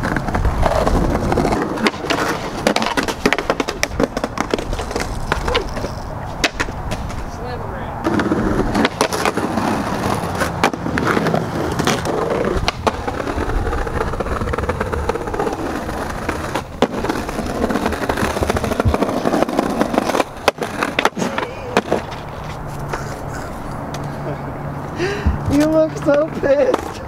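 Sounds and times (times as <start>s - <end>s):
skateboard wheels rolling on bricks: 0.0s - 24.2s, 25.0s - 27.0s
skateboard clacking on ground: 0.0s - 24.3s, 25.4s - 27.0s.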